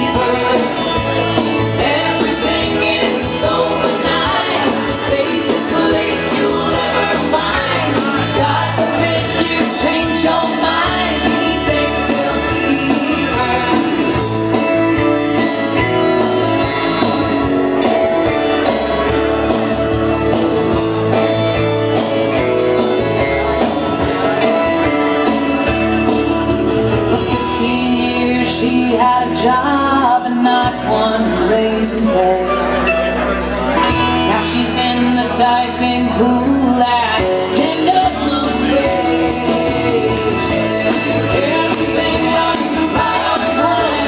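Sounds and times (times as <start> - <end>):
song with singer and backing music: 0.0 - 44.0.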